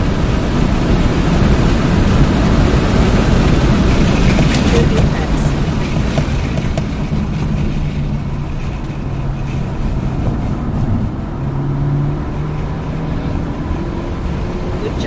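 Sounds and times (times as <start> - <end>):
car engine running under load: 0.0 - 15.0
road noise: 0.0 - 15.0
wind noise: 0.0 - 15.0.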